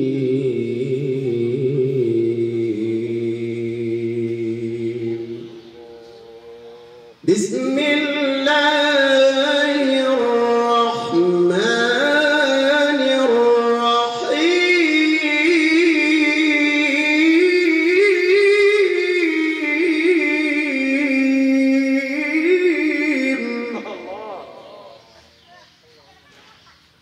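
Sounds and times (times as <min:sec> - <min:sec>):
man reciting melodically: 0:00.0 - 0:05.8, 0:07.1 - 0:25.3.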